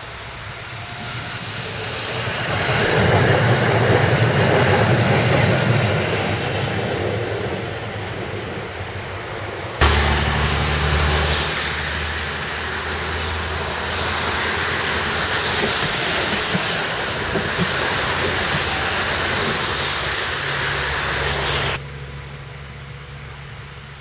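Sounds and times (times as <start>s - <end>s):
tram wheels hissing on track: 0.0s - 24.0s.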